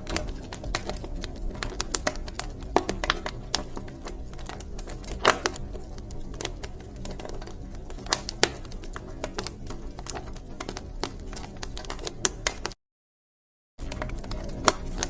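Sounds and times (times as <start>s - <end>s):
wood fire crackling: 0.0s - 12.8s, 13.8s - 15.0s.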